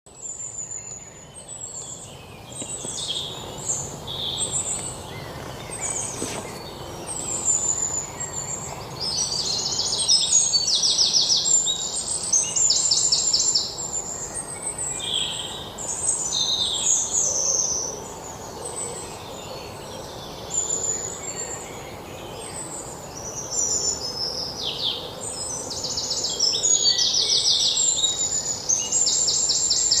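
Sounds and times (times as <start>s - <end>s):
wild birds chirping and trilling: 0.1s - 30.0s.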